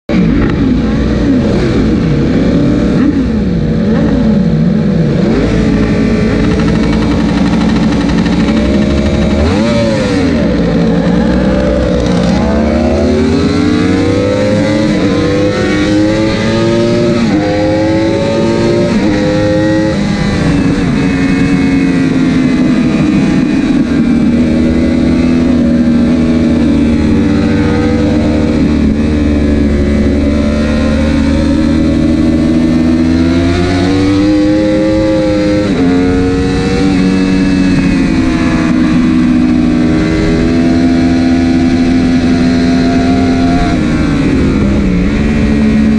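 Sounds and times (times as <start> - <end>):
superbike engine accelerating: 0.2 - 45.9.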